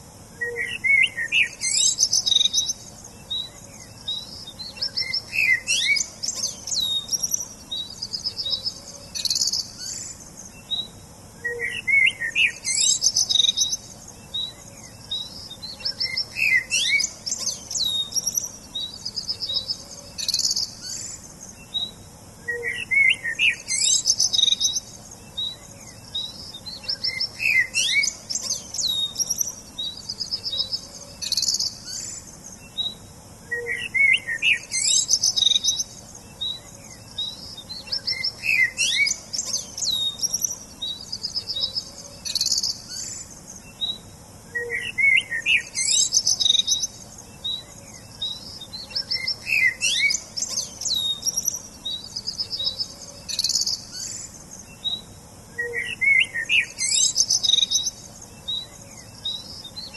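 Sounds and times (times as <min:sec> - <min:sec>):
faint steady hiss: 0:00.0 - 0:59.9
songbirds singing: 0:00.0 - 0:59.9.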